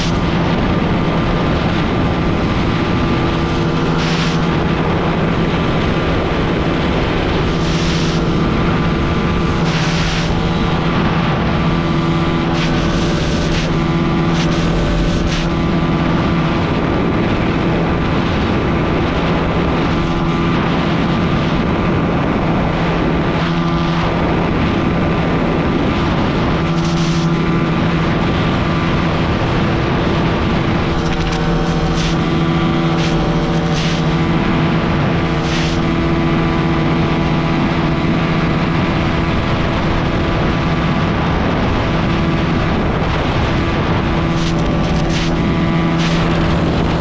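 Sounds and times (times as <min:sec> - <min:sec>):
motorcycle engine running hard: 0:00.0 - 0:47.0
wind gusting on microphone: 0:00.0 - 0:47.0.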